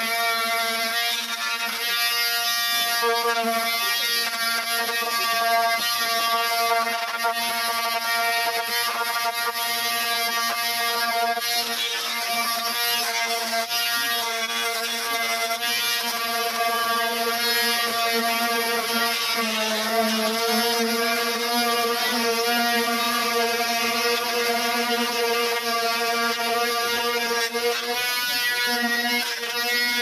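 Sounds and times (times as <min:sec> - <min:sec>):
angle grinder grinding metal: 0:00.0 - 0:30.0.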